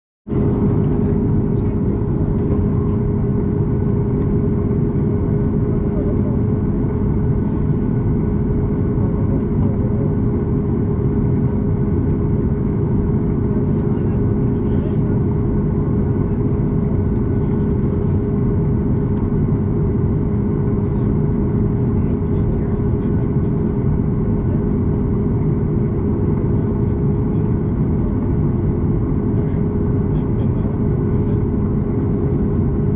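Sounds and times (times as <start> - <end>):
constant cabin hum: 0.3 - 32.9
jet engines rumbling: 0.3 - 32.9.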